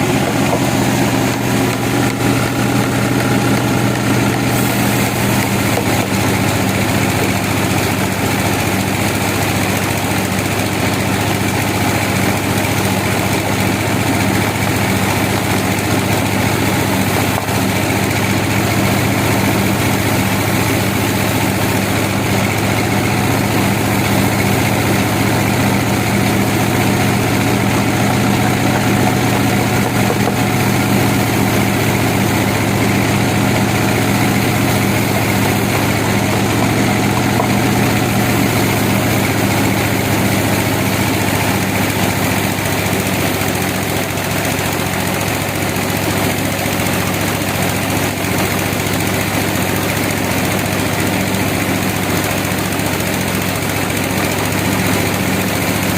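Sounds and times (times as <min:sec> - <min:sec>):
sawmill machinery drone: 0:00.0 - 0:55.9.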